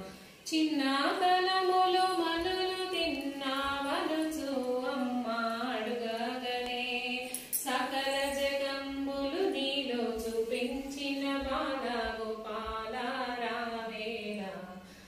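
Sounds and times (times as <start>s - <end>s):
woman singing unaccompanied: 0.0s - 14.9s.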